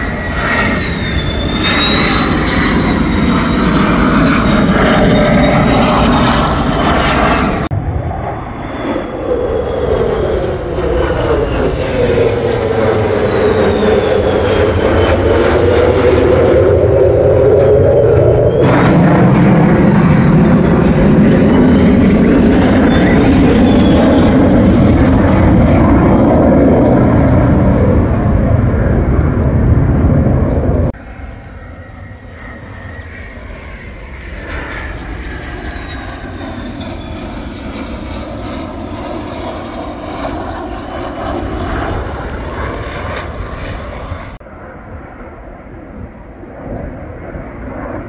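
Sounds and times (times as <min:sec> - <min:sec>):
distant jet noise with whine: 0:00.0 - 0:48.0
fighter jets roaring overhead: 0:00.0 - 0:48.0.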